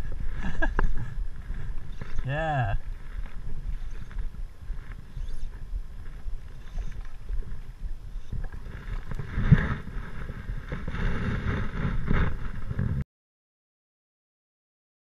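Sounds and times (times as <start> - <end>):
microphone handling noise: 0.0 - 13.0
wind rumble on microphone: 0.0 - 13.0.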